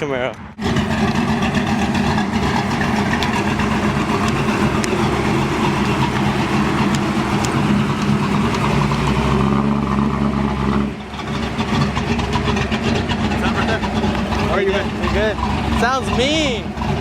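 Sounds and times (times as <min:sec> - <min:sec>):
car engine running loudly: 0:00.6 - 0:17.0.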